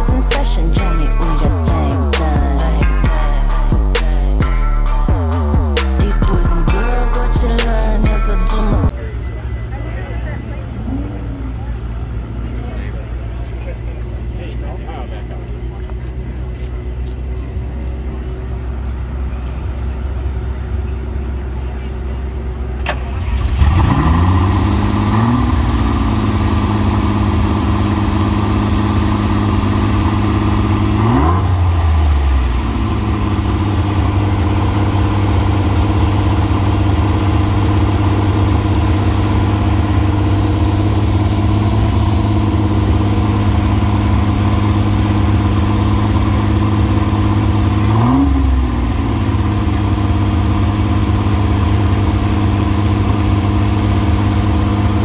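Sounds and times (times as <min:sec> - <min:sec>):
car engine revving and idling: 0:00.0 - 0:55.0.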